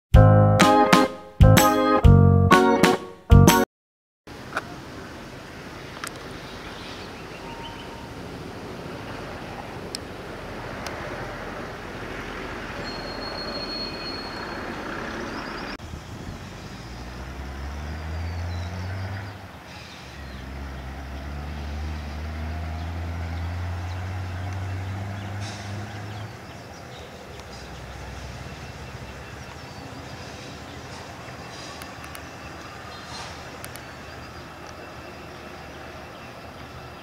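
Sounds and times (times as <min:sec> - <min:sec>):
diesel locomotive engine drone: 0:04.4 - 0:37.0.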